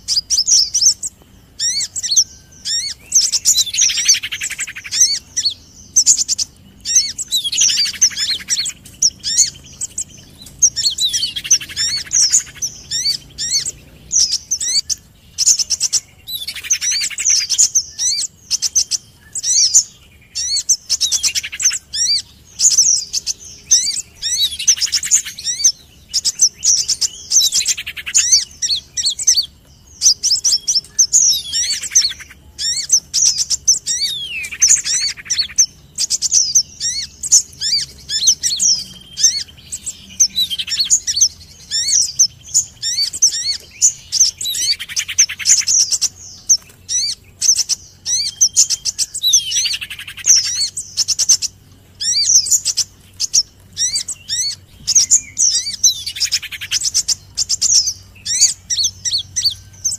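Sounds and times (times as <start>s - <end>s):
high sharp bird chirps: 0.0s - 59.9s
low buzzy bird trill: 0.0s - 59.9s.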